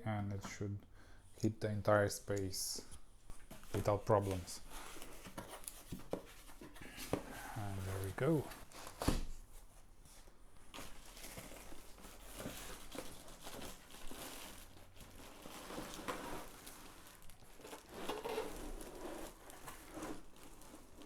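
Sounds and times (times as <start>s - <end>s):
packaging rustling and crinkling: 3.4s - 21.0s.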